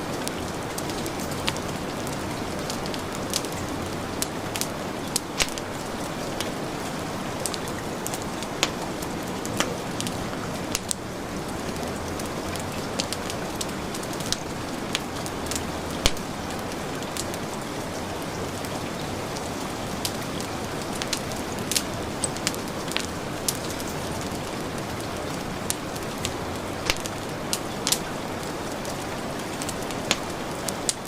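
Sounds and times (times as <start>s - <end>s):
heavy rain: 0.0s - 31.0s
wood fire crackling: 0.0s - 31.0s.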